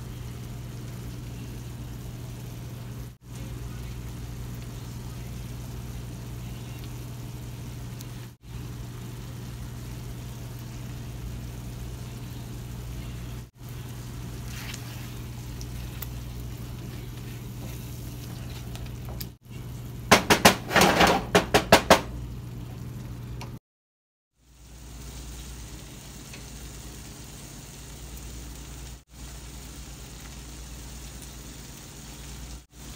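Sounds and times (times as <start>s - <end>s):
low mechanical hum: 0.0s - 23.6s, 24.4s - 32.9s.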